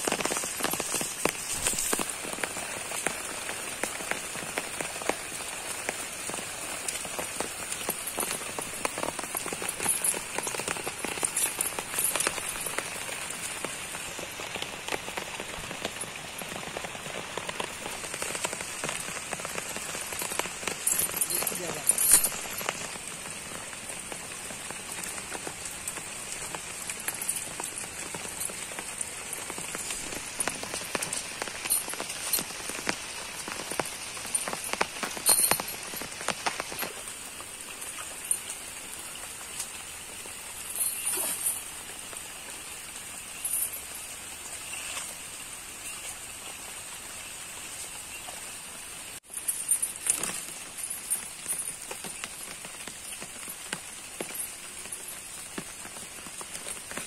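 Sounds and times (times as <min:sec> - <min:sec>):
rain falling on leaves: 0:00.0 - 0:57.0
rain spatters: 0:00.0 - 0:57.0.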